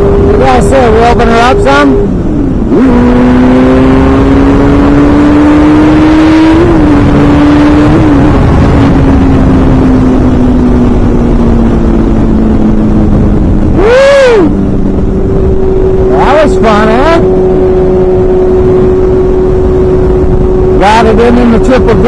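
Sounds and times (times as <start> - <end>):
motorcycle engine accelerating: 0.0 - 22.0
wind rush: 0.0 - 22.0.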